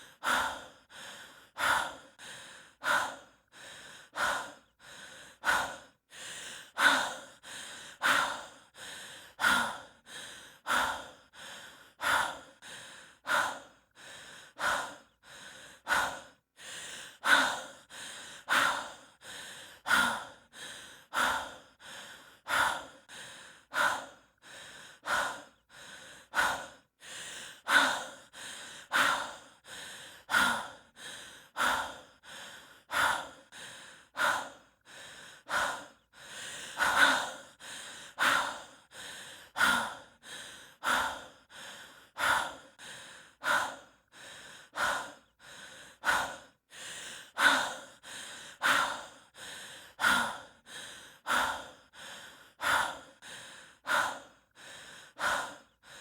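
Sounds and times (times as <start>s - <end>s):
person breathing heavily: 0.0s - 56.0s.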